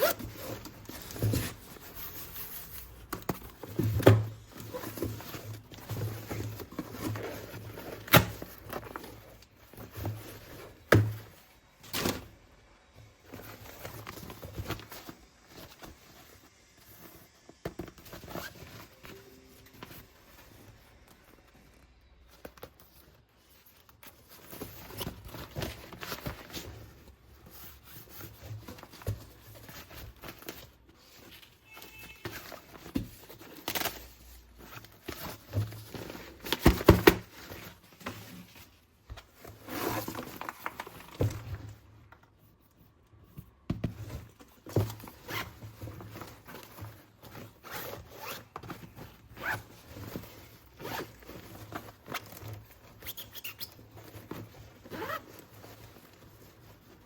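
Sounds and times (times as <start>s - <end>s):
packaging rustling: 0.0s - 57.0s.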